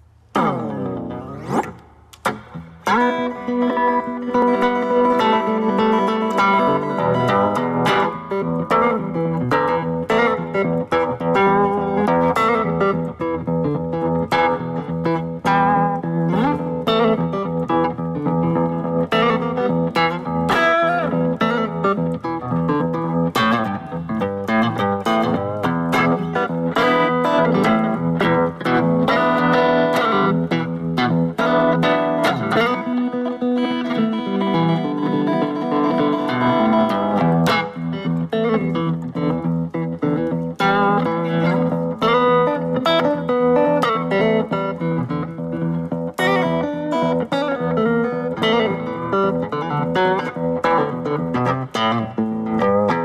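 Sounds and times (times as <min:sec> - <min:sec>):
plucked guitar music: 0:00.0 - 0:53.0.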